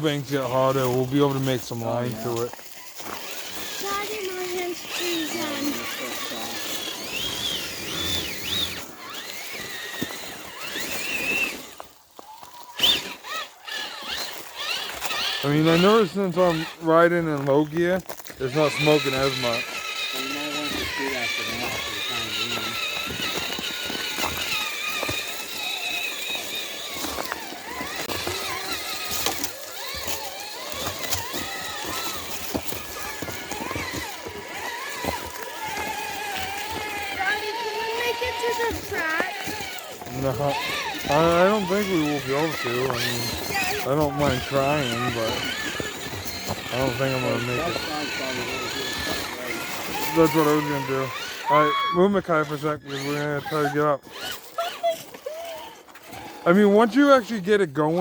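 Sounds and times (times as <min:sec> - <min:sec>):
electric motor and gear whine: 0:00.0 - 0:58.0.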